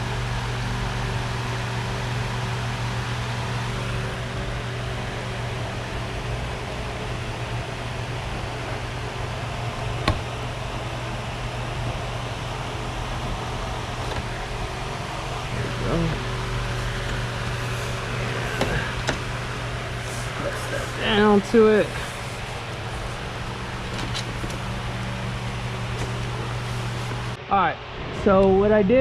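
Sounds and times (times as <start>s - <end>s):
machine hum with hiss: 0.0s - 29.0s.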